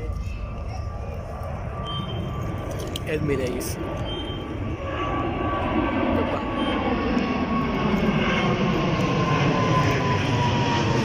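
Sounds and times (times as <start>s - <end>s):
high engine whine: 0.0s - 11.0s
jet airliner passing: 0.0s - 11.0s.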